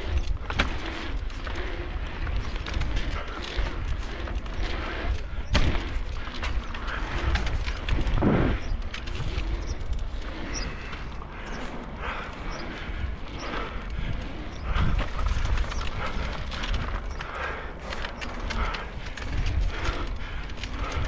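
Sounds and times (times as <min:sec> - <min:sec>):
bike knocks and rattles: 0:00.0 - 0:21.0
bike tyre noise: 0:00.0 - 0:21.0
wind buffeting microphone: 0:00.0 - 0:21.0.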